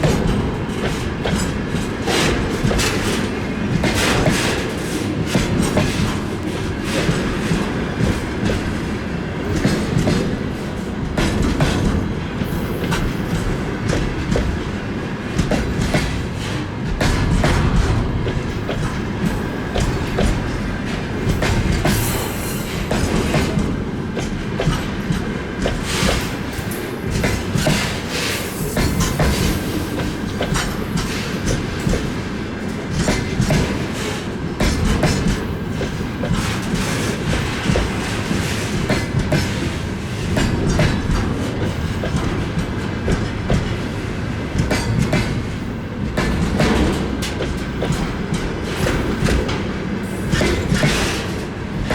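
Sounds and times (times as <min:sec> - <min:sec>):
freight train wheels rumbling: 0:00.0 - 0:51.9.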